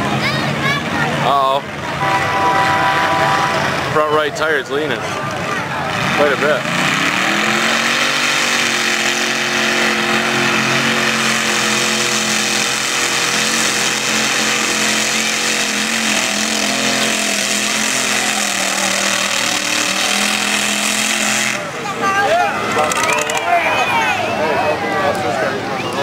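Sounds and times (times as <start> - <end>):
truck engine revving hard: 0.0 - 24.9.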